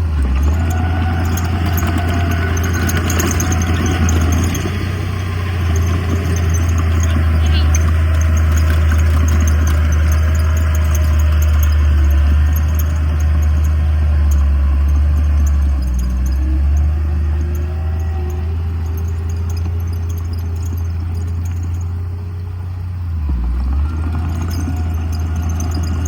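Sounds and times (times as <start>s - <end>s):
diesel engine deep drone: 0.0s - 26.0s.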